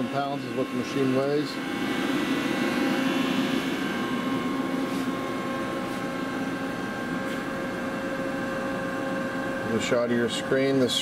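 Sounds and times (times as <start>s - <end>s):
idle machine hum with steady tones: 0.0s - 11.0s.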